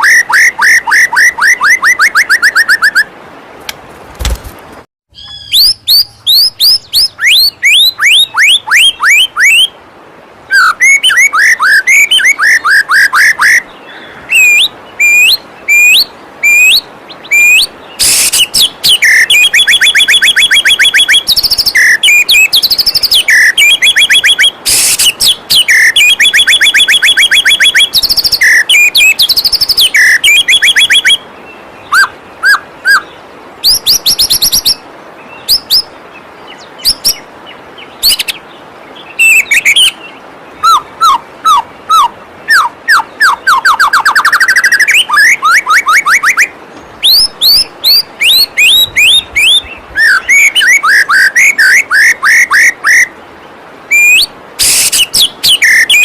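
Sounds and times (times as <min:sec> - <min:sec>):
bird singing whistles and trills: 0:00.0 - 0:03.1, 0:05.1 - 0:09.8, 0:10.5 - 0:35.9, 0:36.5 - 0:53.2, 0:53.9 - 0:56.0
waterfall water rushing: 0:00.0 - 0:04.0, 0:07.2 - 0:56.0.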